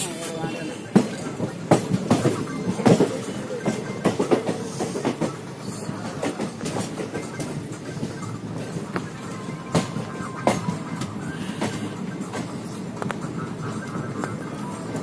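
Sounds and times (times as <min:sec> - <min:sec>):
train wheels clicking over rail joints: 0:00.0 - 0:13.4
train rumble: 0:00.0 - 0:15.0.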